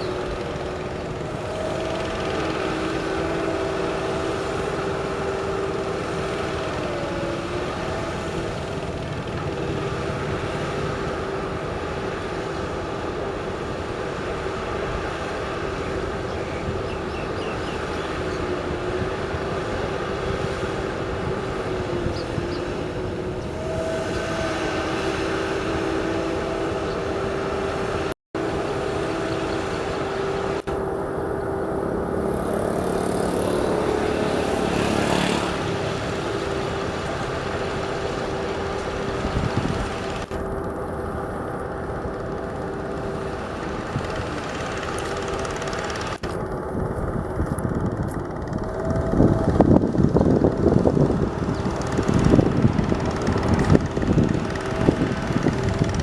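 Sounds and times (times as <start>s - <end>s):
diesel machinery whining: 0.0s - 56.0s.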